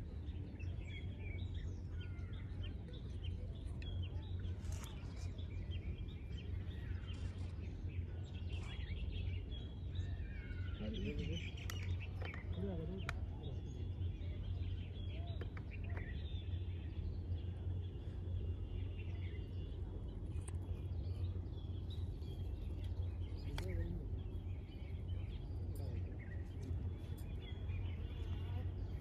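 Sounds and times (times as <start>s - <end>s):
faint birds chirping: 0.0s - 29.0s
faint distant voices: 0.0s - 29.0s
steady low rumble: 0.0s - 29.0s.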